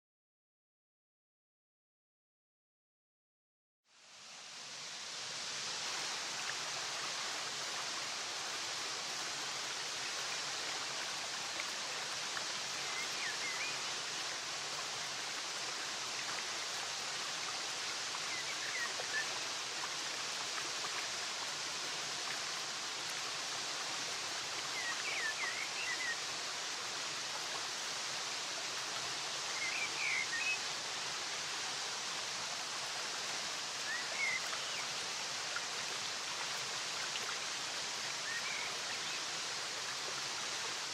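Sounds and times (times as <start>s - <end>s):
flowing water rushing: 3.9s - 40.9s.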